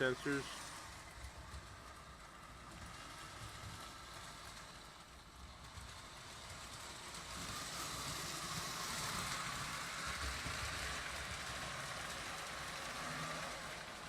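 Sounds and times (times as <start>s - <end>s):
toy train rolling rattle: 0.0s - 14.0s.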